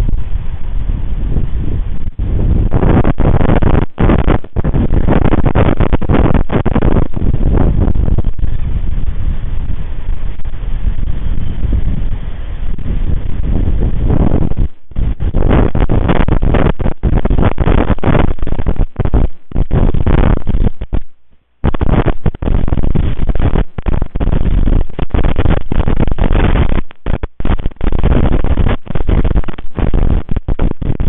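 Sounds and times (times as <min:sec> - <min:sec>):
storm wind buffeting microphone: 0:00.0 - 0:31.0.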